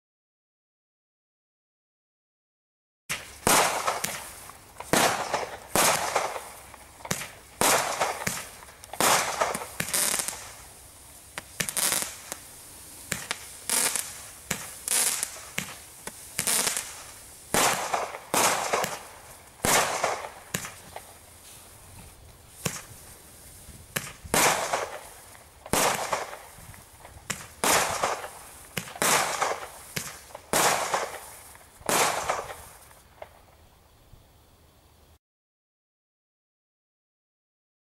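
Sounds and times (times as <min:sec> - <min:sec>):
firework shots and aerial bursts: 0:03.1 - 0:33.6.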